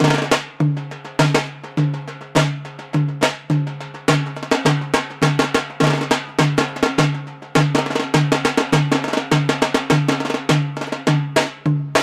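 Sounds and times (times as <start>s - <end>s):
drums playing a driving rhythm: 0.0s - 12.0s.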